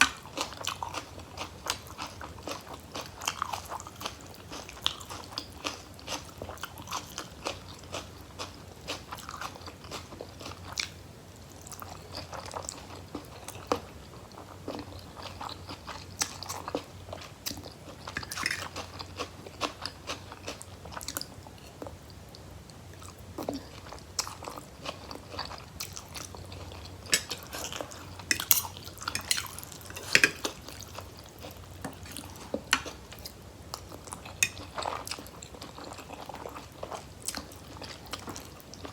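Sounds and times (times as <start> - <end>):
person chewing food: 0.0 - 10.9, 11.6 - 38.9.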